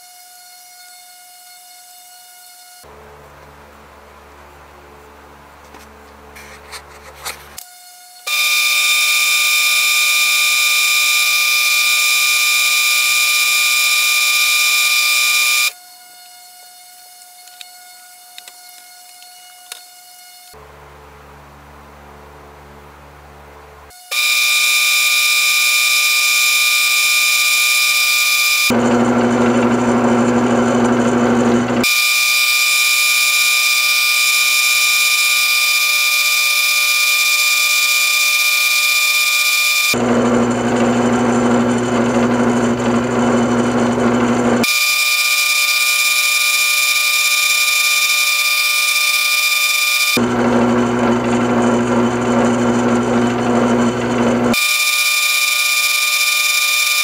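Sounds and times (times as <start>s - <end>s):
wood lathe motor whine: 7.8s - 20.6s, 23.9s - 57.0s.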